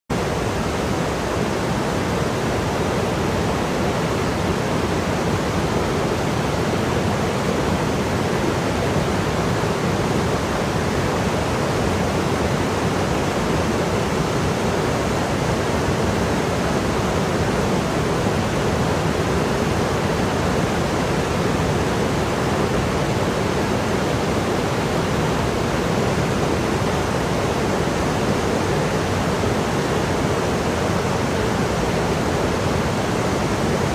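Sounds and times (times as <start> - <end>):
fast-flowing stream water rushing: 0.1 - 33.9.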